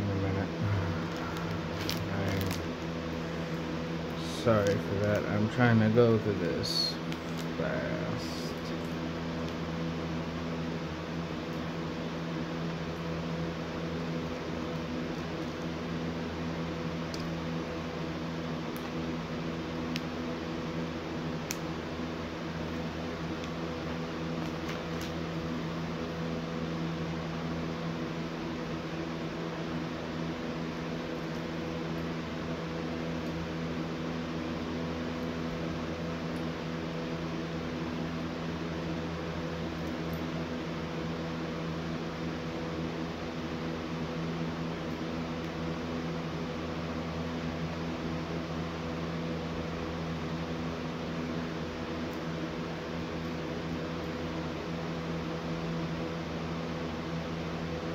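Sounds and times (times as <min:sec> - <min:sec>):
machine hum with tones: 0:00.0 - 0:57.9.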